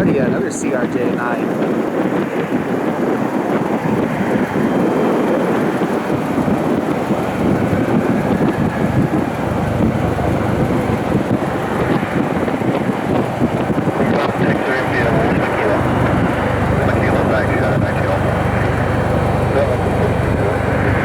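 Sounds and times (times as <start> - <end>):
faint jet engine whine: 0.0 - 21.0
jet engines rushing: 0.0 - 21.0.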